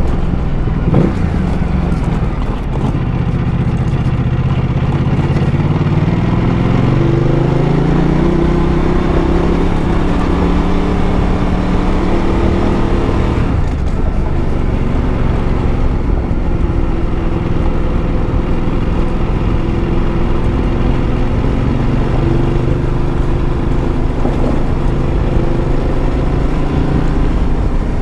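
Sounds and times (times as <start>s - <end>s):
tyres rumbling on dirt: 0.0s - 7.8s, 8.4s - 28.0s
motorcycle engine revving: 0.0s - 28.0s.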